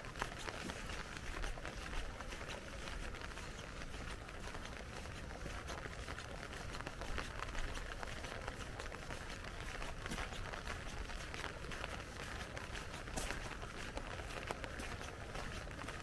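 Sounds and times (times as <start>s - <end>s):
rain pattering on an umbrella: 0.0s - 16.0s.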